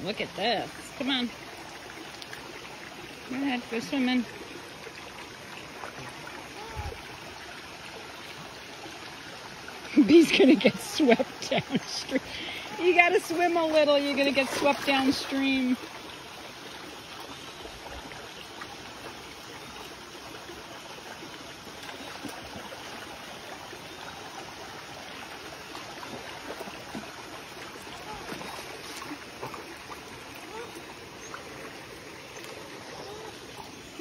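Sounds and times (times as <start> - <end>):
water rushing: 0.0 - 34.0.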